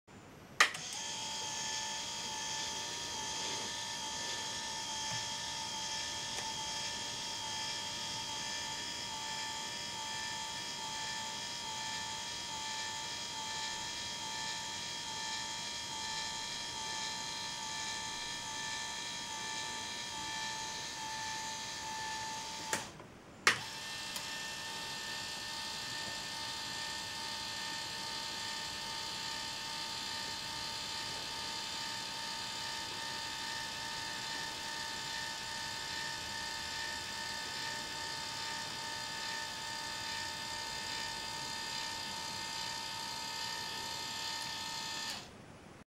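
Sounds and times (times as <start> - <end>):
electric motor whining: 0.6 - 45.3.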